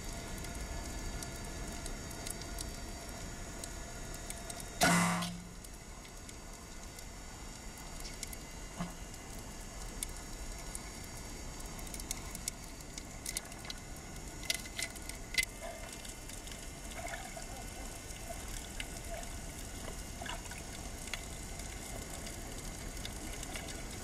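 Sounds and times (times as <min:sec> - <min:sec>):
faint underwater hiss: 0:00.0 - 0:24.0
small clicks and crackles: 0:00.0 - 0:24.0.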